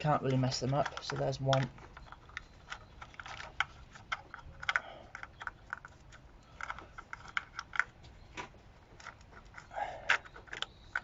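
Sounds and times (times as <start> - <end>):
plastic connectors clicking: 0.2 - 11.0.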